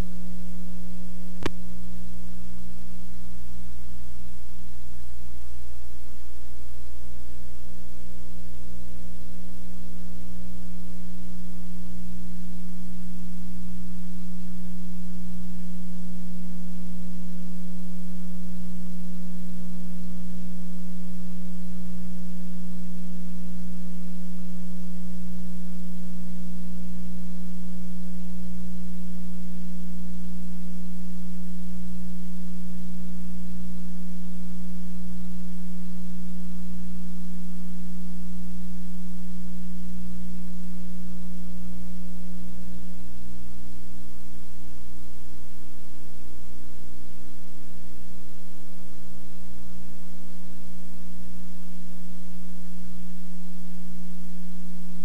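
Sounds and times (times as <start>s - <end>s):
electrical hum: 0.0s - 55.0s
faint pulsing buzz: 0.0s - 55.0s.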